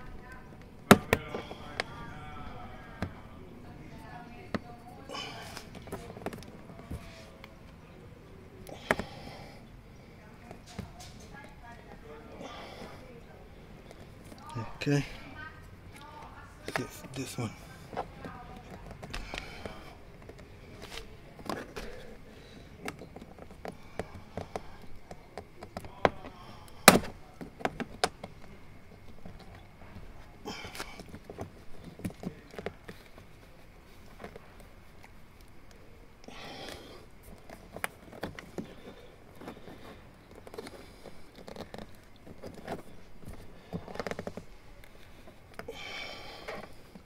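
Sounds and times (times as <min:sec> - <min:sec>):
rustling: 0:00.0 - 0:47.0.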